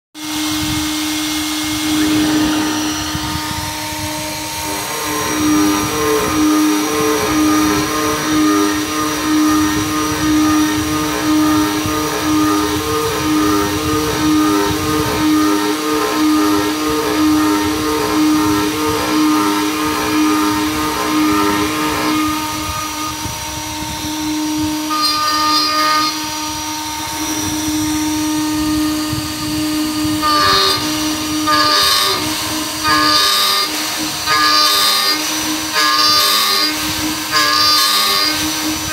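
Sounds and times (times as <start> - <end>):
router spindle cutting aluminum: 0.2 - 38.9.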